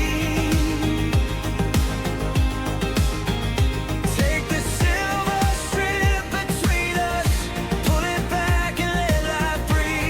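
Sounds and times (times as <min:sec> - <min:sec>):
person singing: 0:00.0 - 0:02.5, 0:04.0 - 0:10.0
kick drum beat: 0:00.0 - 0:09.9
pop backing music: 0:00.0 - 0:10.0.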